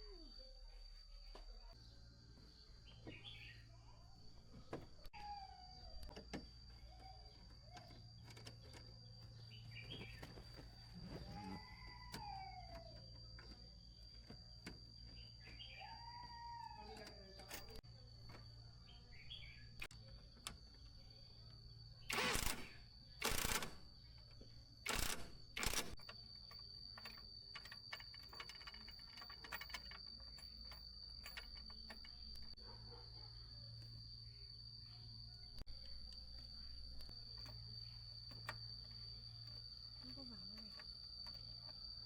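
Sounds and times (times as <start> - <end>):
high insect trill: 0.0 - 42.0.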